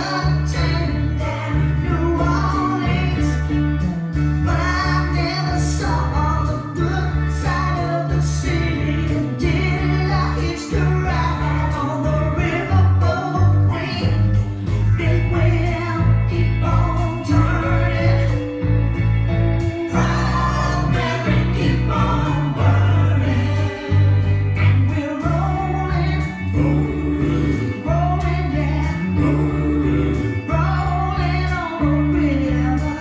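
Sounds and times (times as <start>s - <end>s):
singing over heavy bass beat: 0.0s - 33.0s.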